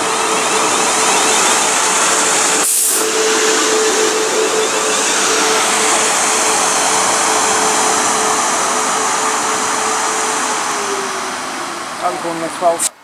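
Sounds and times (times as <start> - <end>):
electric train running: 0.0 - 12.8.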